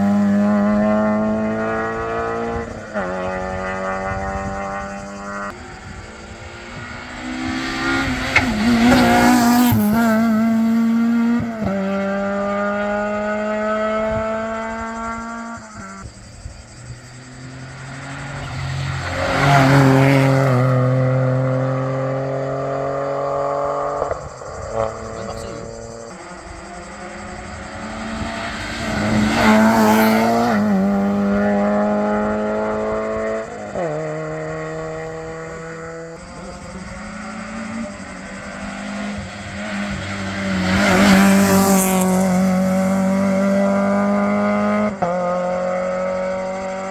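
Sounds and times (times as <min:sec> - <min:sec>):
rally car engine passing: 0:00.0 - 0:46.9.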